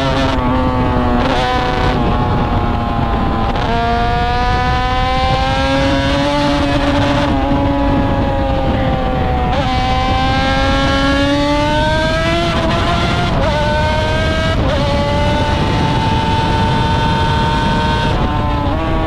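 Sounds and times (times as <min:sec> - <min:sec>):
racing motorcycle engine upshifting: 0:00.0 - 0:19.0.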